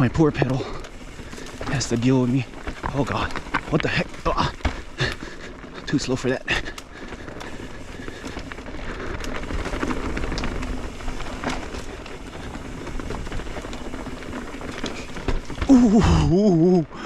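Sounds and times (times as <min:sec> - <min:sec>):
bike knocking and rattling: 0:00.0 - 0:17.0
bike tyres crunching on dirt: 0:00.0 - 0:17.0.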